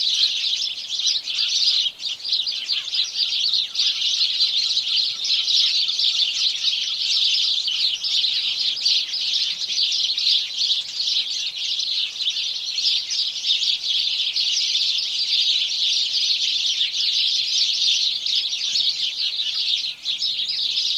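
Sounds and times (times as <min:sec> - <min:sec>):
sparrows chirping: 0:00.0 - 0:20.9.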